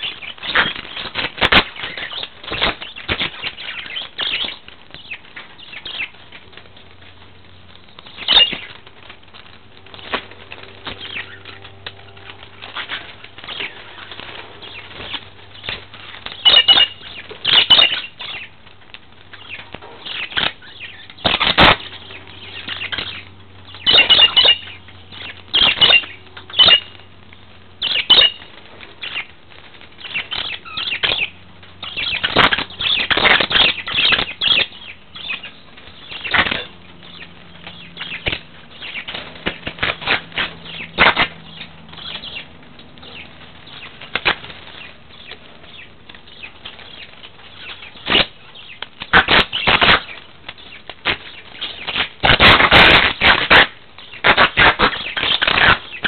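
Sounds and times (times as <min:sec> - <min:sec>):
budgerigars chirping: 0:00.0 - 0:06.2, 0:08.0 - 0:08.8, 0:10.9 - 0:11.5, 0:12.6 - 0:18.5, 0:19.4 - 0:27.0, 0:27.8 - 0:29.3, 0:30.0 - 0:56.0
wings fluttering and scuffling: 0:00.0 - 0:56.0.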